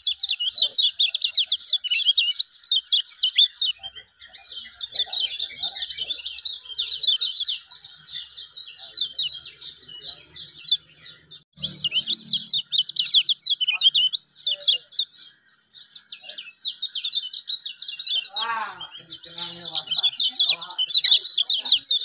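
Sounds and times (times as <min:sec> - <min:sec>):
bird chattering song: 0:00.0 - 0:22.0.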